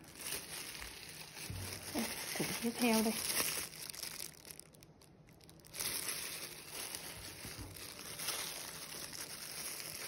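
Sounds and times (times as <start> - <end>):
dry bulbs rustling in cardboard box: 0.0 - 10.0
plastic glove crinkling: 0.0 - 10.0.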